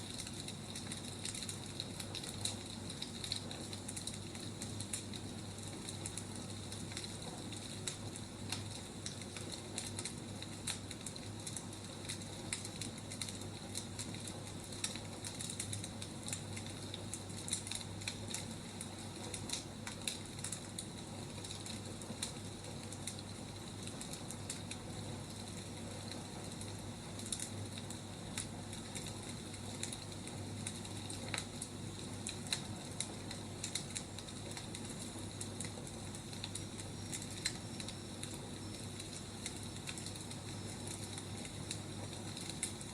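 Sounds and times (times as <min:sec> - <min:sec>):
firewood crackling and popping: 0:00.0 - 0:42.9.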